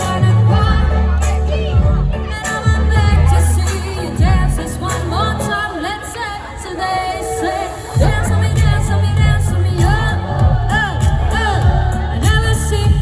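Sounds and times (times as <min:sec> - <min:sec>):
amplified backing music with bass: 0:00.0 - 0:05.7, 0:08.0 - 0:13.0
person singing live pop song: 0:00.0 - 0:13.0.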